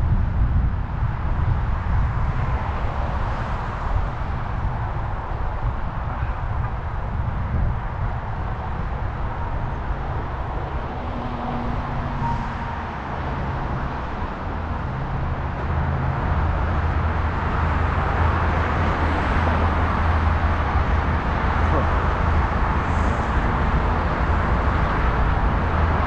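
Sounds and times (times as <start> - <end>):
low wind rumble: 0.0 - 26.0
road traffic: 0.0 - 26.0.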